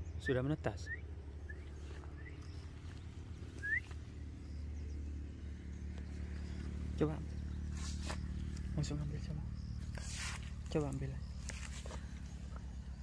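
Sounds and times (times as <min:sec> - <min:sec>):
high rising bird chirps: 0:00.0 - 0:13.0
low steady rumble: 0:00.0 - 0:13.0.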